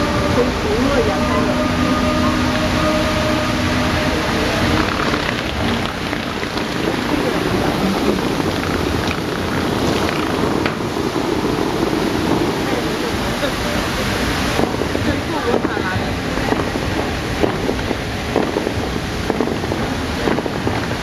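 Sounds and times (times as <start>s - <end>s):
fountain water spraying and falling: 0.0s - 21.0s.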